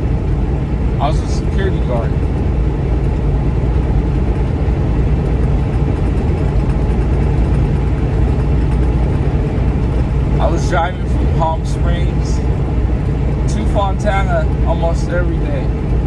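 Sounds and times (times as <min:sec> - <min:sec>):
road noise: 0:00.0 - 0:16.0
vehicle engine drone: 0:00.0 - 0:16.0.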